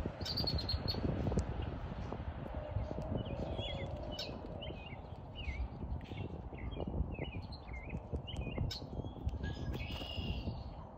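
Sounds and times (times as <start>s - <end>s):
steady low rumble: 0.0s - 10.9s
small birds chirping: 0.2s - 1.9s, 2.7s - 10.8s.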